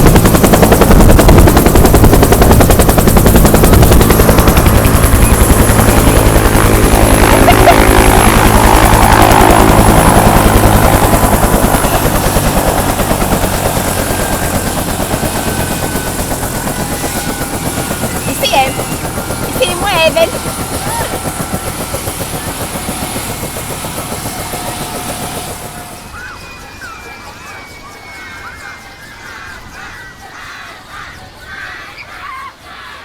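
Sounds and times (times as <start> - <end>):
helicopter rotor chopping: 0.0 - 31.8
high turbine whine: 0.0 - 33.0.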